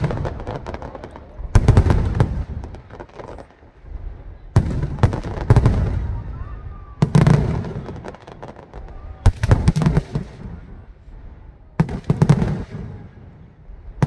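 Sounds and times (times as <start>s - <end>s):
fireworks booming: 0.0s - 14.0s
fireworks crackle: 0.0s - 14.0s.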